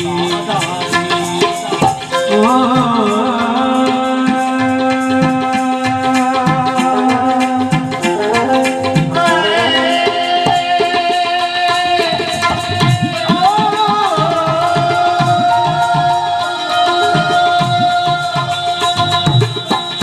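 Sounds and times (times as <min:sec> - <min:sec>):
held melody line: 0:00.0 - 0:20.0
tabla rhythm: 0:00.0 - 0:20.0.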